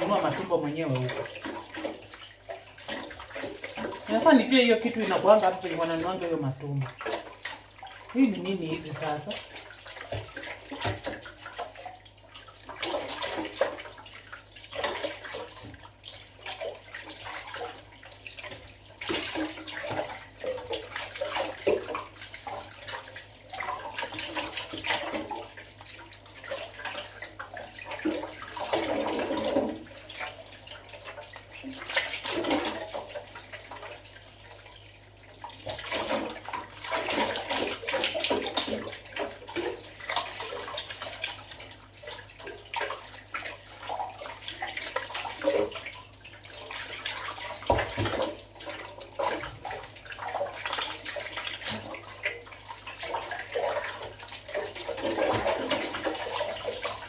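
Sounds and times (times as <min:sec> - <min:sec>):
water sloshing in a basin: 0:00.0 - 0:57.0.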